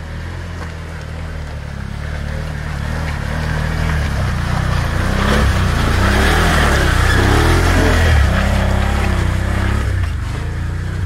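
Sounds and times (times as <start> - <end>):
atv engine pulling uphill: 0.0 - 11.0.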